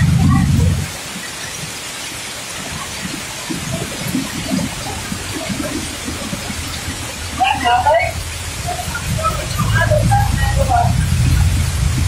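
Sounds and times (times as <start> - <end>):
heavy rain pouring: 0.0 - 12.0
vehicles driving through floodwater: 0.0 - 12.0.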